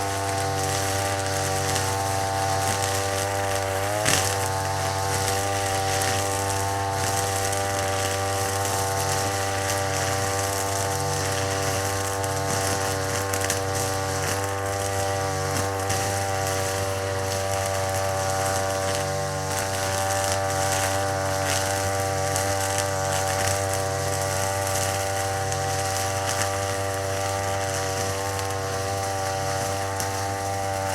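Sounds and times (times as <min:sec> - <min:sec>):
brush cutter engine running: 0:00.0 - 0:30.9.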